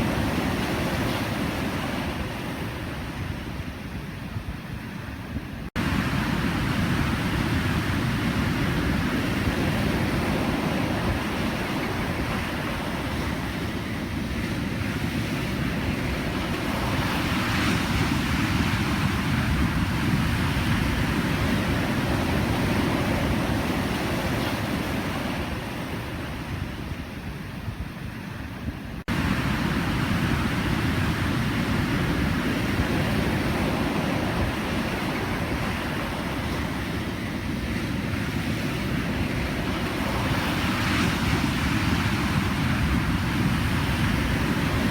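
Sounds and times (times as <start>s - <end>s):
waves breaking and washing: 0.0s - 44.9s.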